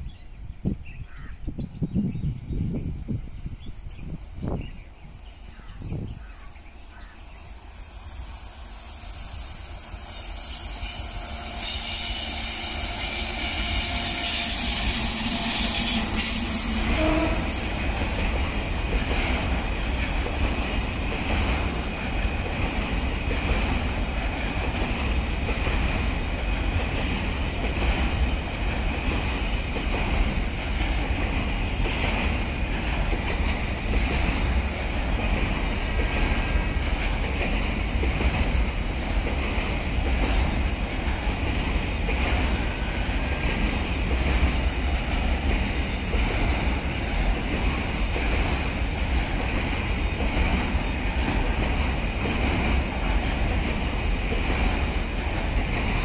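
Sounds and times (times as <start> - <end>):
electric locomotive whine and squeal: 0.0 - 56.0
train wheels rumbling on rails: 0.0 - 56.0.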